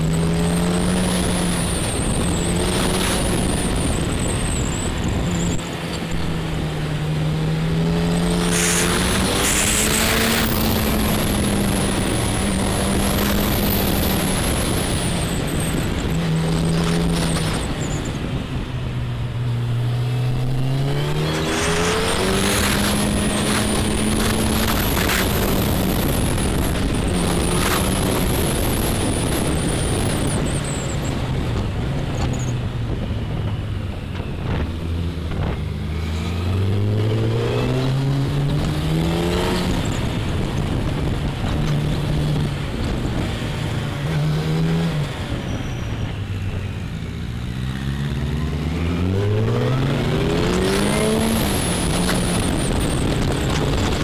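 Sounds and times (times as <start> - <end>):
wind rushing noise: 0.0 - 54.0.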